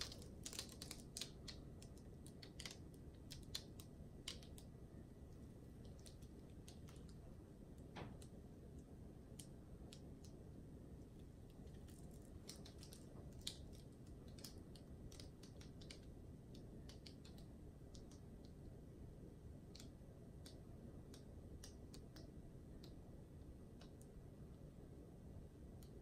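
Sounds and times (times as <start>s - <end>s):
small clicks and ticks: 0.0s - 10.4s, 11.0s - 18.9s, 19.6s - 24.7s, 25.6s - 26.0s
low steady hum: 0.0s - 26.0s.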